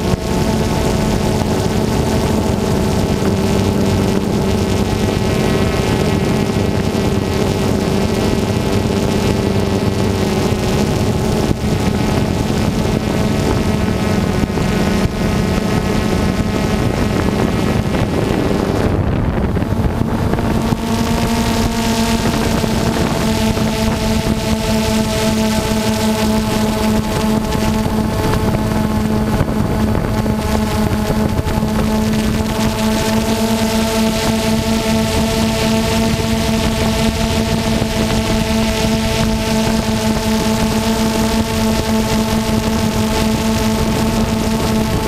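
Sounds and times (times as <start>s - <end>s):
drone propellers humming: 0.0s - 45.0s.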